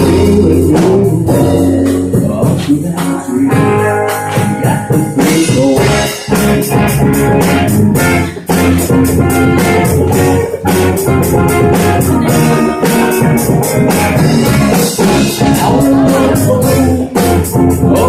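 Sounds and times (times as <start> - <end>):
live rock band instrumental: 0.0 - 18.0.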